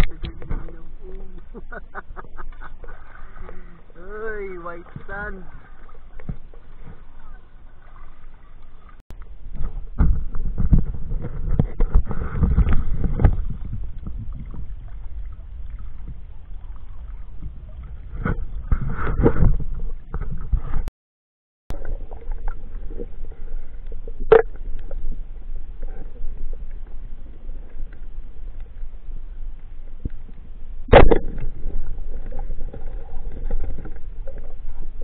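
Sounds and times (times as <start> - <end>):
water sloshing and splashing: 0.0 - 20.9, 21.7 - 35.0.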